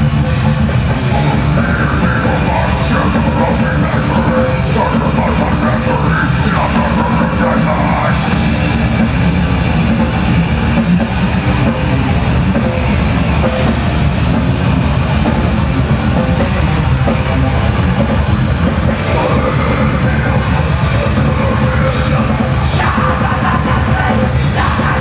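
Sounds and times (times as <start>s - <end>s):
distorted electric guitars: 0.0s - 25.0s
rapid dense drumming: 0.0s - 25.0s.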